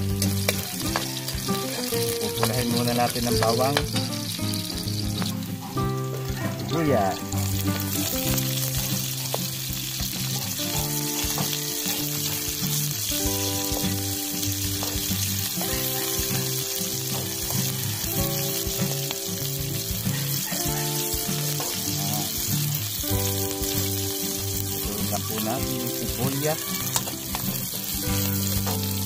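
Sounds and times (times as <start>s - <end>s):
background music of held notes: 0.0s - 29.0s
onion sizzling in hot oil: 0.0s - 29.0s.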